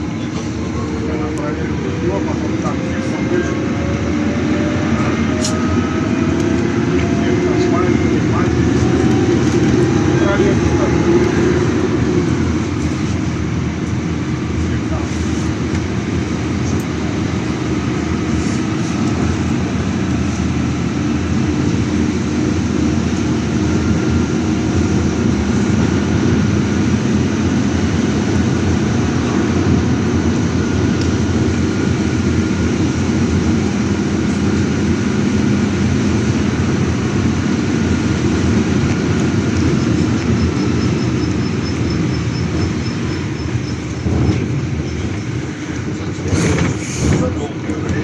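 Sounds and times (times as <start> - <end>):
bus engine and road rumble: 0.0 - 48.0.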